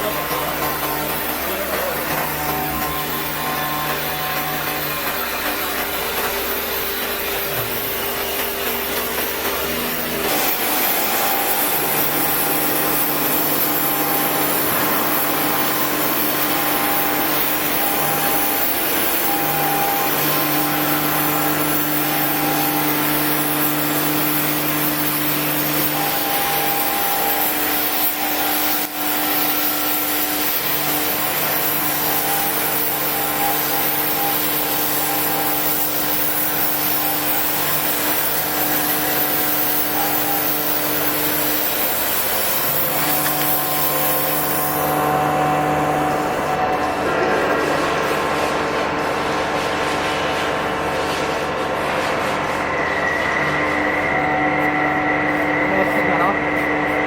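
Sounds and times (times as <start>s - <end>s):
cutting torch hissing: 0.0s - 47.8s
machine hum: 0.0s - 57.0s.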